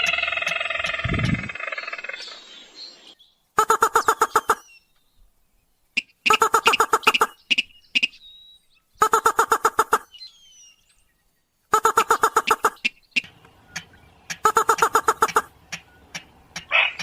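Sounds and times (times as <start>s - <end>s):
recorded rail bird call: 0.0s - 17.0s.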